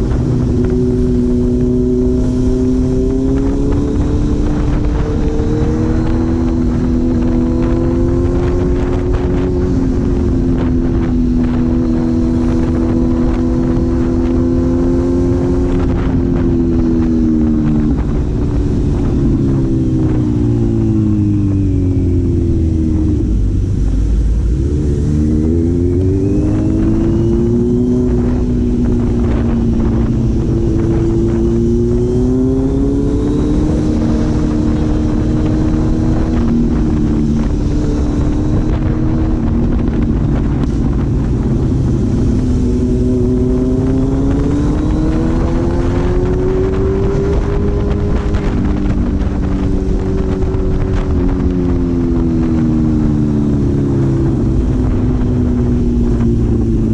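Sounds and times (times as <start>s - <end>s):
four-cylinder engine running: 0.0s - 56.9s.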